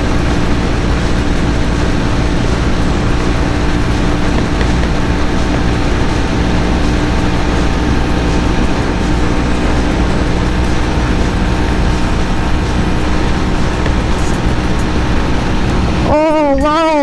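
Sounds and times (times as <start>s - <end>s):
motorcycle engine drone: 0.0s - 17.0s
wind and road rush: 0.0s - 17.0s.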